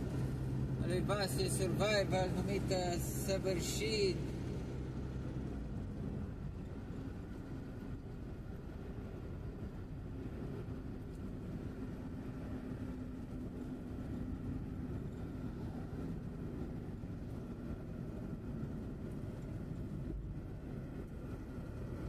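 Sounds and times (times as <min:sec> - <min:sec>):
car engine drone: 0:00.0 - 0:22.0.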